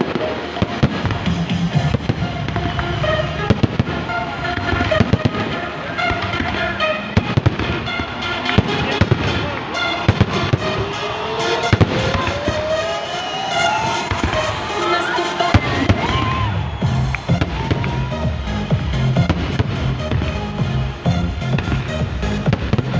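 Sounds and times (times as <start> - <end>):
firework rising whistle: 0.0 - 18.7
fireworks bangs and crackles: 0.0 - 22.9
music playing: 0.0 - 22.9.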